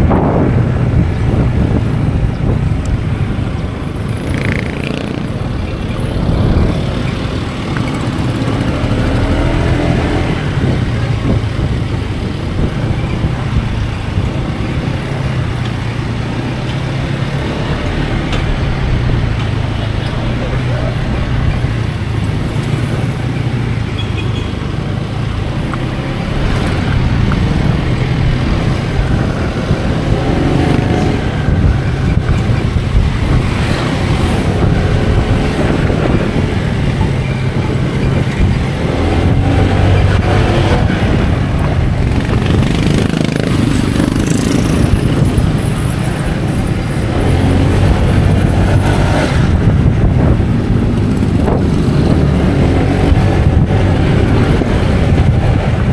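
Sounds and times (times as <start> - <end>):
road noise: 0.0 - 55.9
vehicle engine hum: 0.0 - 55.9
wind on microphone: 0.0 - 55.9.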